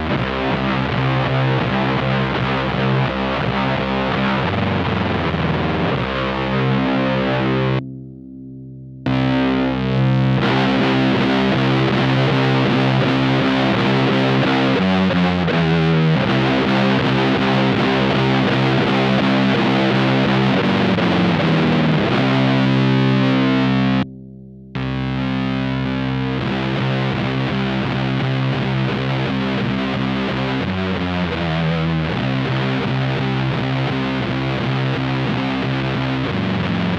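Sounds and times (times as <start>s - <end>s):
distorted electric guitar riff: 0.0s - 36.9s.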